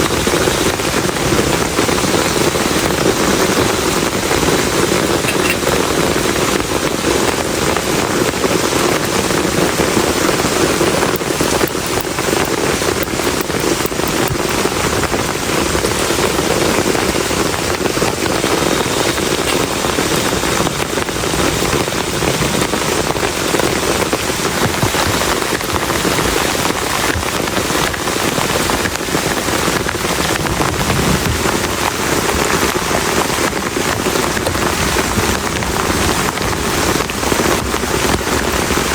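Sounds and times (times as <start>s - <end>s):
heavy rain on a plastic tarp: 0.0s - 38.9s.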